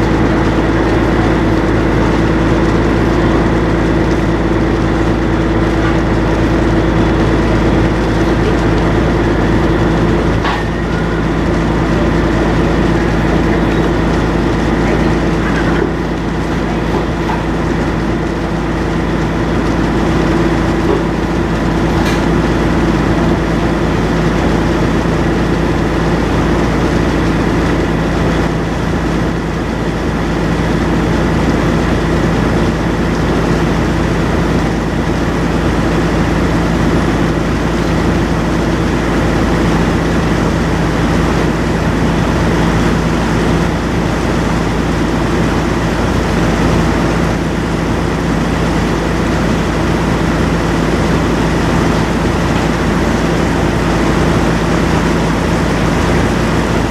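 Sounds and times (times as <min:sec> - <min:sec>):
boat engine droning: 0:00.0 - 0:56.9.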